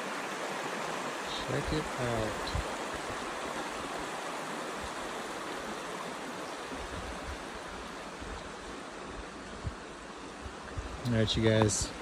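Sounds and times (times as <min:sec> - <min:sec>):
creek flowing over stones: 0:00.0 - 0:12.0.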